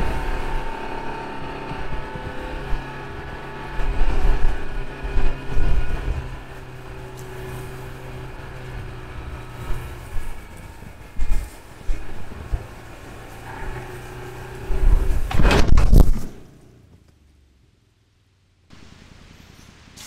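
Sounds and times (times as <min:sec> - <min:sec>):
engine running at low speed: 0:00.0 - 0:20.0.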